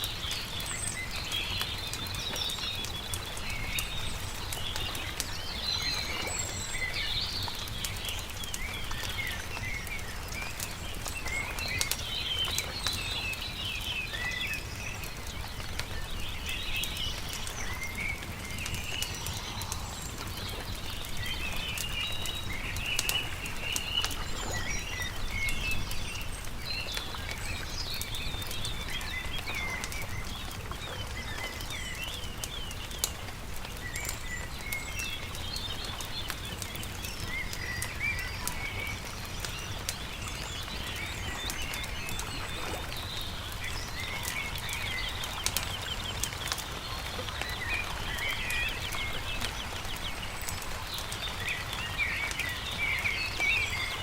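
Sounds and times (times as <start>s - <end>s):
campfire crackling and popping: 0.0s - 54.0s
songbirds chirping: 0.0s - 54.0s.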